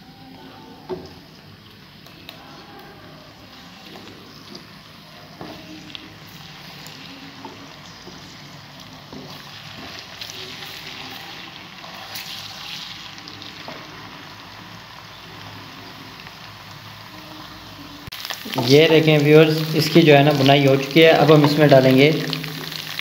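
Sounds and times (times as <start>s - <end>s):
paste sizzling in pan: 0.9s - 23.0s.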